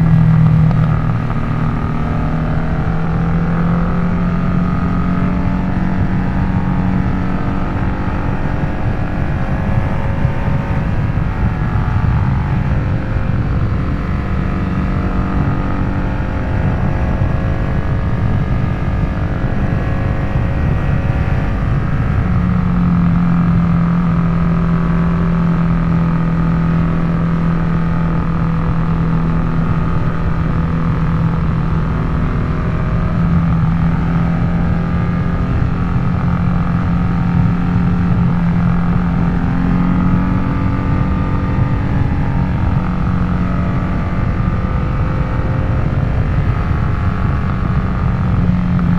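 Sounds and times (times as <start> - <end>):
motorcycle engine riding: 0.0 - 48.9.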